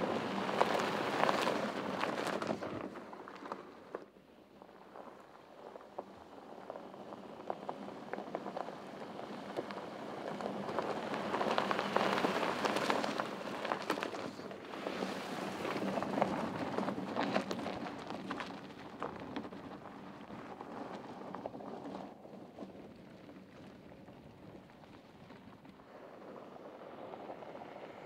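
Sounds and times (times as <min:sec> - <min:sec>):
tyres crunching over gravel: 0:00.0 - 0:04.1, 0:04.7 - 0:28.0.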